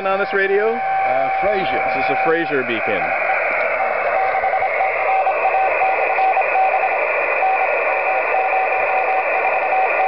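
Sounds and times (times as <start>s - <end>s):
morse code tone: 0.0s - 8.8s
receiver hiss: 0.0s - 10.0s.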